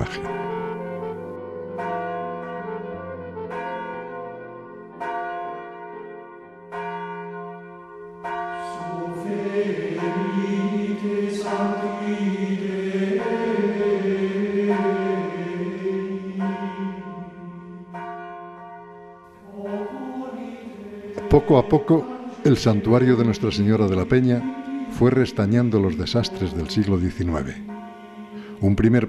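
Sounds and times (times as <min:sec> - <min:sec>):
chant-like held chord: 0:00.0 - 0:04.1, 0:08.5 - 0:29.0
church bells ringing: 0:00.0 - 0:29.0.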